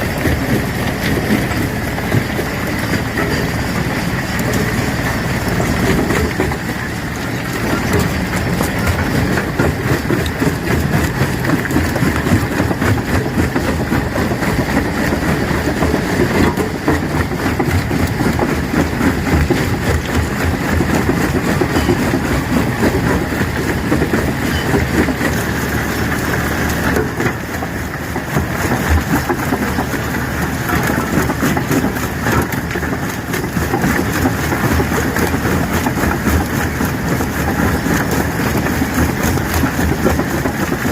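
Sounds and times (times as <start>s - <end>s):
rock crusher drone: 0.0s - 40.9s.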